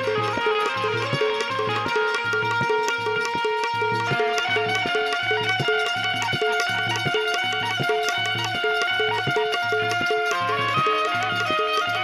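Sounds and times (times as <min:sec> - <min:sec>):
long held melody note: 0:00.0 - 0:12.0
steady drum beat: 0:00.0 - 0:12.0.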